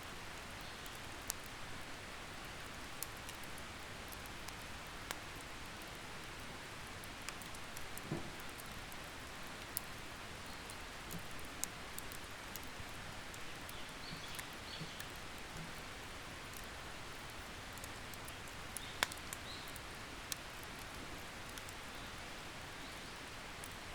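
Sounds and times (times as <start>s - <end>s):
campfire crackling and popping: 0.2s - 22.2s, 23.5s - 23.9s.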